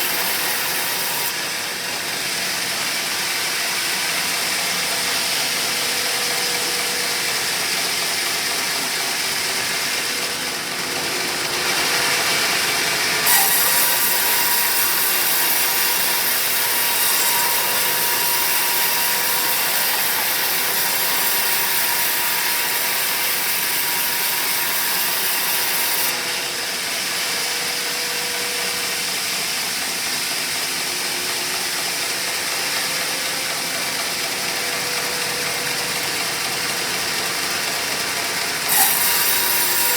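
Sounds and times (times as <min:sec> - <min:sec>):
saw blade cutting log: 0:00.0 - 0:39.9
sawmill running: 0:00.0 - 0:39.9.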